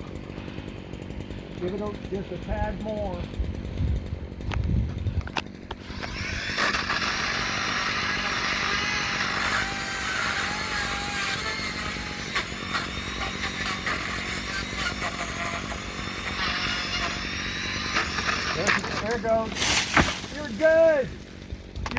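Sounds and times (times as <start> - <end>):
chainsaw cutting branch: 0.0 - 21.9.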